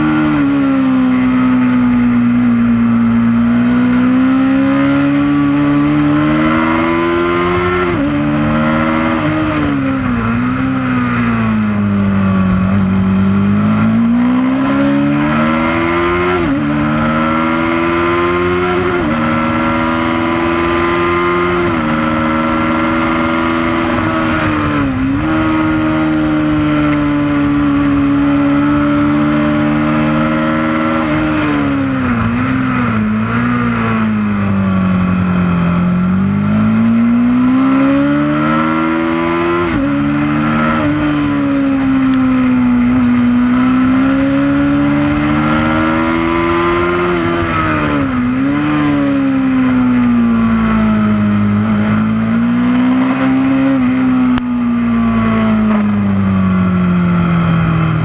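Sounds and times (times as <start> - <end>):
motorcycle engine revving: 0.0 - 58.0
wind and tyre rush: 0.0 - 58.0.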